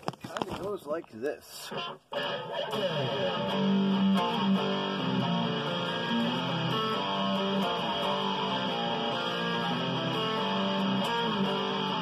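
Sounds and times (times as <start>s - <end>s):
electric guitar riff: 1.6s - 12.0s.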